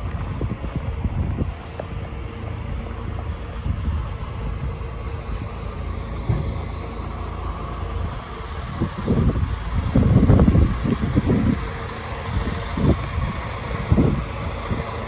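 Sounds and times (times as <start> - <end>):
engine idling: 0.0 - 15.0
wind buffeting microphone: 0.0 - 15.0.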